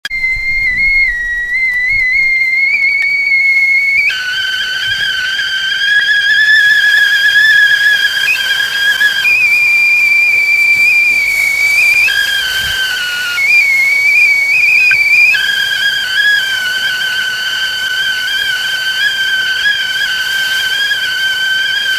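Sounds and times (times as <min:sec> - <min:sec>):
teapot whistling: 0:00.0 - 0:21.9
hiss of steam: 0:02.6 - 0:21.9.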